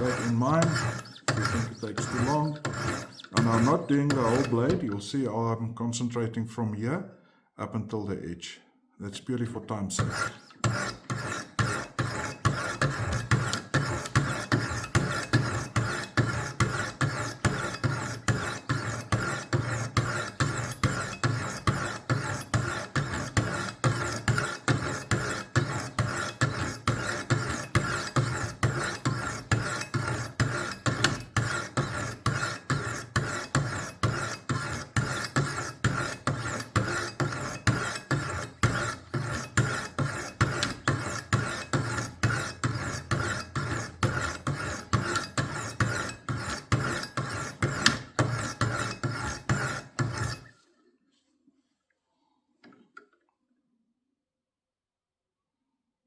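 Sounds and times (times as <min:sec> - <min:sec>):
sharpening stones rasping on blade: 0:00.0 - 0:04.7, 0:10.0 - 0:50.5.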